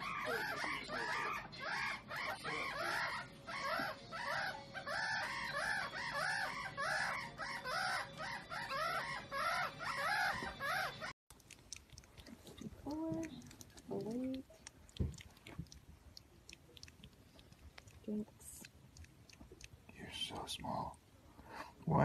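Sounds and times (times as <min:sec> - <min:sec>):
meerkat pups peeping: 0:00.0 - 0:20.5.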